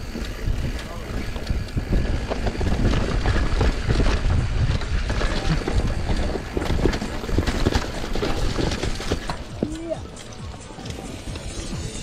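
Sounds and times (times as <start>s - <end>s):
bike tyres rumbling on dirt: 0.0s - 10.2s
bike rattling: 0.0s - 12.0s.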